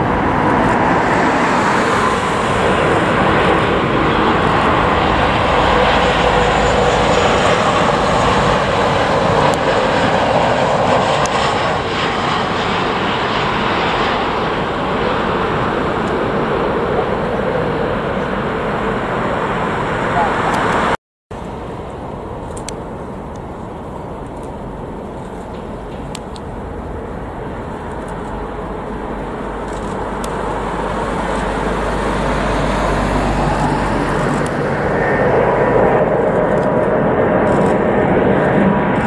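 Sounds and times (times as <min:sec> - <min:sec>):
jet engines roaring with whine: 0:00.0 - 0:39.0.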